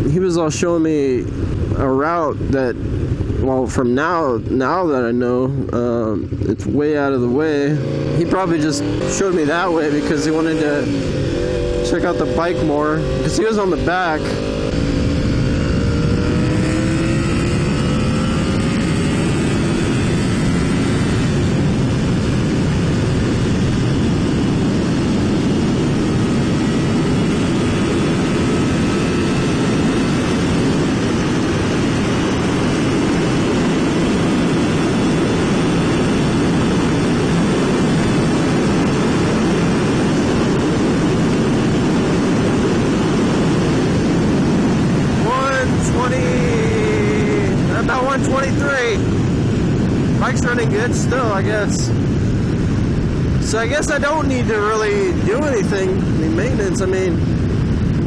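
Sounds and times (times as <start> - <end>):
wind rushing at speed: 0.0 - 58.0
motorcycle engine accelerating: 1.0 - 58.0.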